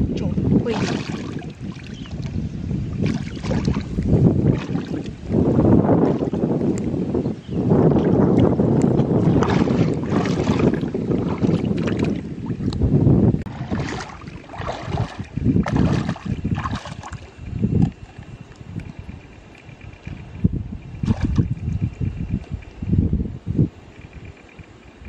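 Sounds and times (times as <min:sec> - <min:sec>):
water sloshing and splashing: 0:00.0 - 0:07.0, 0:07.7 - 0:22.7
wind buffeting microphone: 0:00.0 - 0:25.0.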